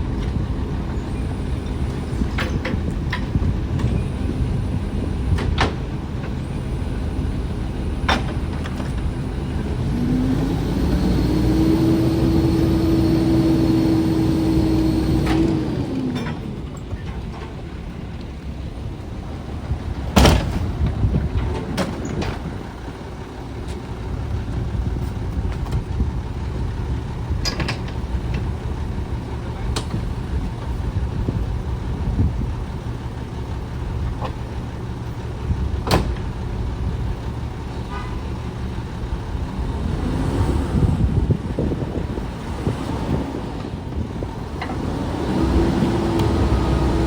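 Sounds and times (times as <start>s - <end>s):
diesel engine low rumble: 0.0s - 47.0s.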